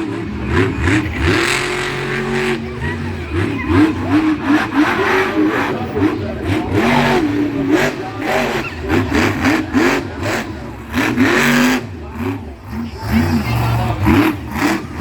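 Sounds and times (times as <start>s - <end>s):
truck engine revving hard: 0.0s - 15.0s.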